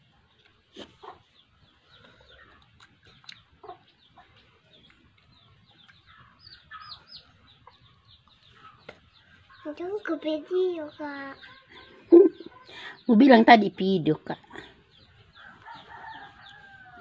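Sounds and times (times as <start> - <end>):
faint bird chirps and clucks: 0.0 - 17.0.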